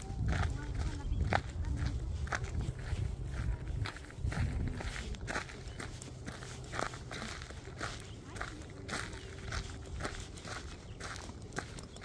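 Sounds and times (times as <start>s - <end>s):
footsteps crunching on trail: 0.0s - 12.0s
low microphone rumble: 0.0s - 12.0s.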